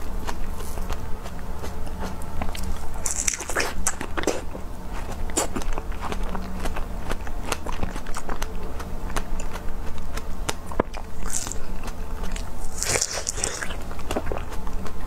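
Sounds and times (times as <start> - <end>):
biting into strawberry: 0.0 - 15.0
wet chewing: 0.0 - 15.0.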